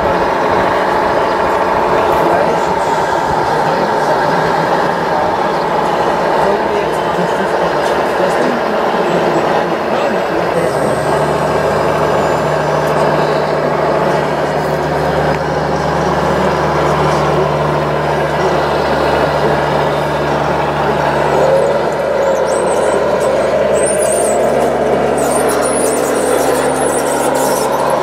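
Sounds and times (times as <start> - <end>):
diesel truck engine sound: 0.0 - 28.0.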